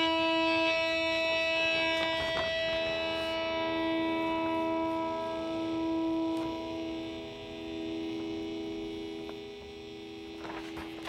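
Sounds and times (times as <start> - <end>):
guitar string ringing: 0.0 - 11.0.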